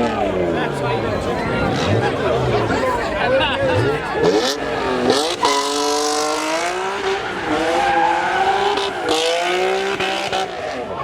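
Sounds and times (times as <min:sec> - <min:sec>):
tyres squealing: 0:00.0 - 0:10.8
car engine revving: 0:00.0 - 0:11.0.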